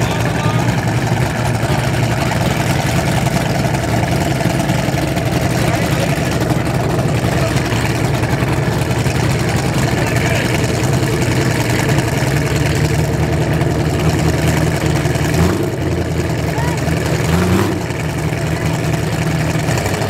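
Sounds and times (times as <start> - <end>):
race car engine idling: 0.0 - 20.0.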